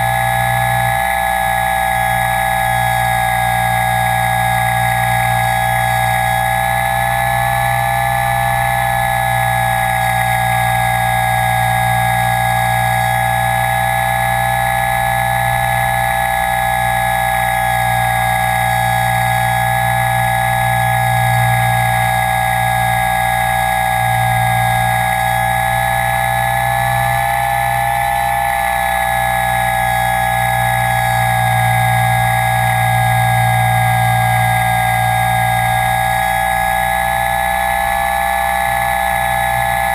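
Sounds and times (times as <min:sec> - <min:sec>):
aircraft motors and propellers whining: 0:00.0 - 0:39.9.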